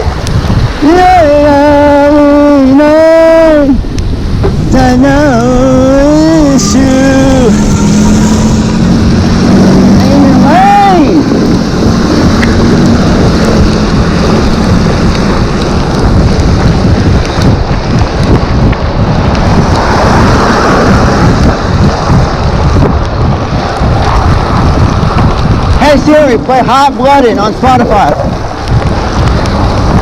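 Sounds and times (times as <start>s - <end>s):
rain: 0.0s - 30.0s
wind buffeting microphone: 0.0s - 30.0s.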